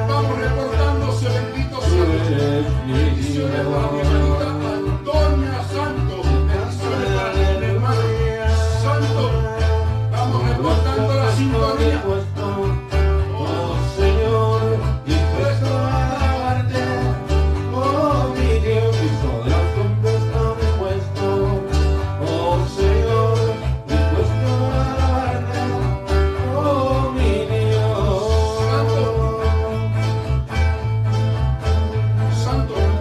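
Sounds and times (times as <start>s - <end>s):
man singing into a microphone: 0.0s - 30.4s, 32.2s - 33.0s
acoustic guitar: 0.0s - 33.0s
pulsing bass line: 0.0s - 33.0s.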